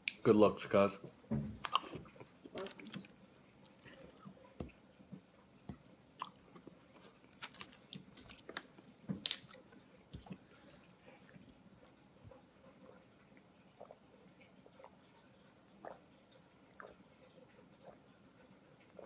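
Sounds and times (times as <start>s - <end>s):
person chewing with wet mouth sounds: 1.6s - 19.0s.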